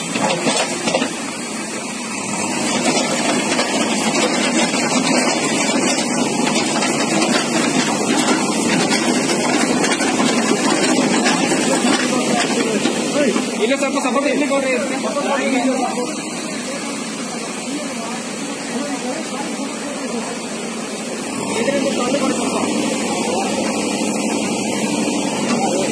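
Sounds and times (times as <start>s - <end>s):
backhoe engine running: 0.0s - 25.9s.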